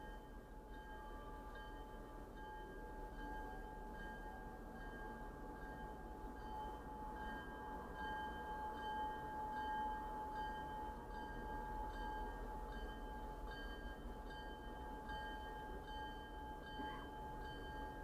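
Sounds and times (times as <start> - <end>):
railroad warning bell ringing: 0.0 - 18.0.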